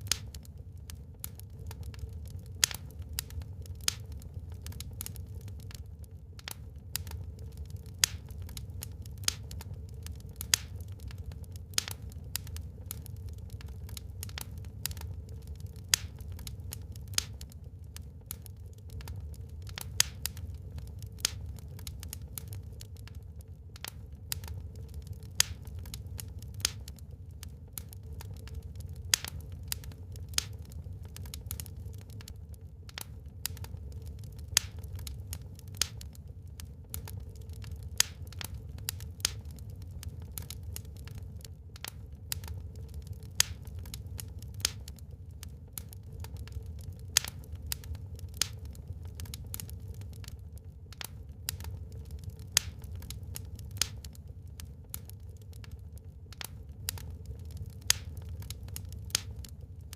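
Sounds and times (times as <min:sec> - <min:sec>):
low steady rumble: 0:00.0 - 0:59.9
wood fire crackling and popping: 0:00.0 - 0:59.9.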